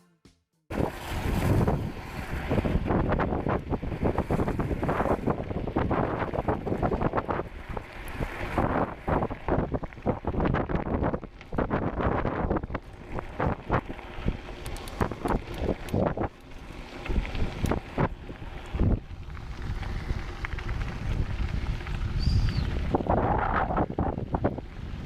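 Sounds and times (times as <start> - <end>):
wind buffeting microphone: 0.7 - 25.0.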